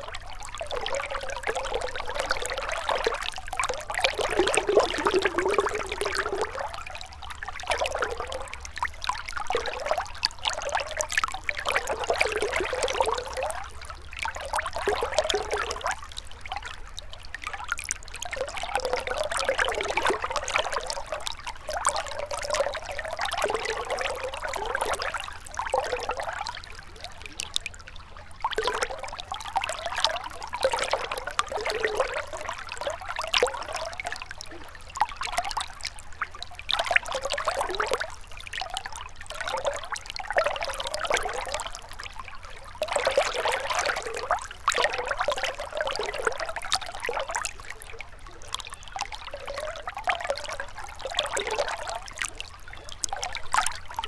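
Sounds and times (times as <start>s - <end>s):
river water trickling: 0.0s - 54.0s.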